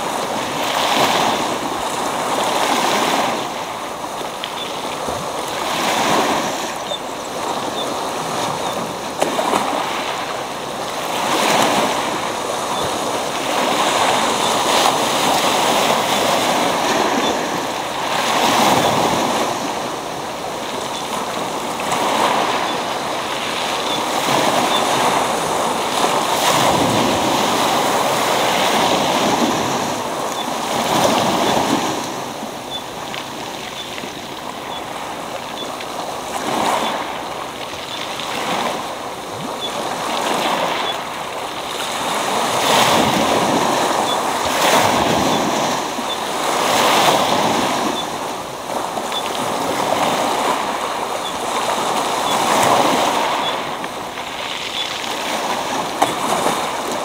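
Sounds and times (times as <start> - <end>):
waves breaking on pebble beach: 0.0 - 57.0.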